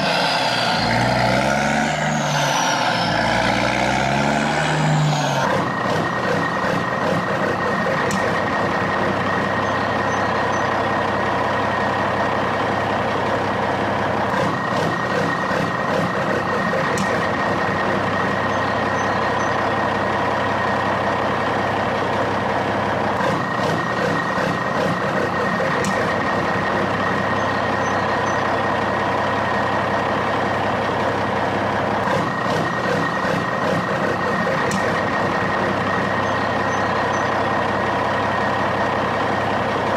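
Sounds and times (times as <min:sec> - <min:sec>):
heavy truck engine running: 0:00.0 - 0:39.9.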